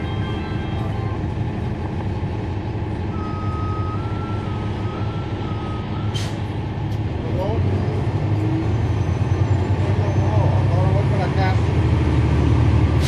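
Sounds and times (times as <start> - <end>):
diesel bus engine rumbling: 0.0 - 13.0.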